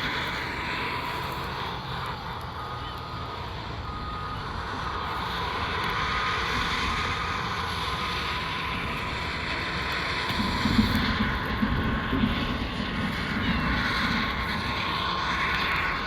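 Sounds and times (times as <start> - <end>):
heavy machinery rumbling: 0.0 - 16.0
reversing alarm beeping: 0.0 - 16.0.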